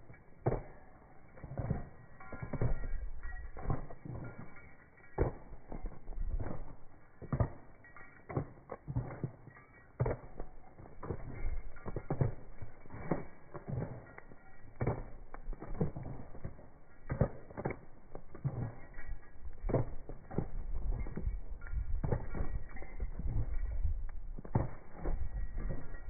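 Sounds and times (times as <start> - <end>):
hoofbeats on pavement: 0.0 - 26.0
leather saddle creaking: 0.0 - 26.0.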